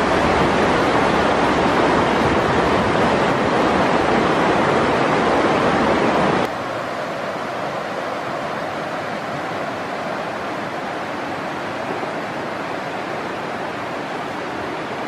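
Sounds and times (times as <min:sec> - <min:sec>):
steady loud rushing noise: 0:00.0 - 0:15.0.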